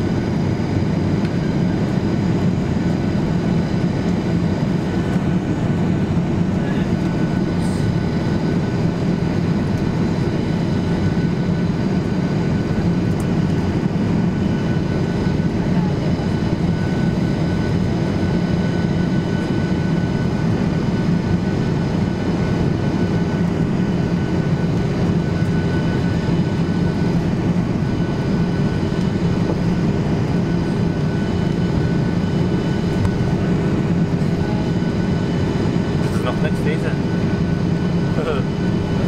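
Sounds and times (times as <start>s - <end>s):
jet engine cabin roar: 0.0s - 39.0s.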